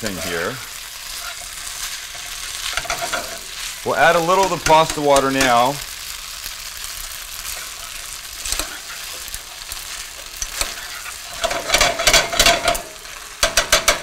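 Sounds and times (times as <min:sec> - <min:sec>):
food sizzling in a skillet: 0:00.0 - 0:14.0
spoon scraping a pan: 0:00.1 - 0:05.6, 0:07.4 - 0:14.0.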